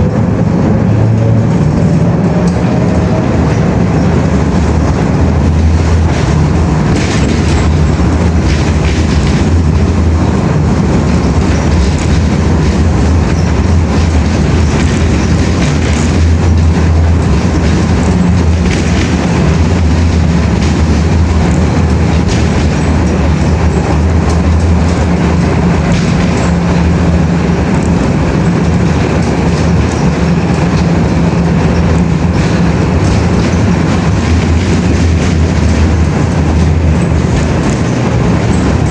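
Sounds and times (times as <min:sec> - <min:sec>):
vehicle engine rumble: 0:00.0 - 0:38.9.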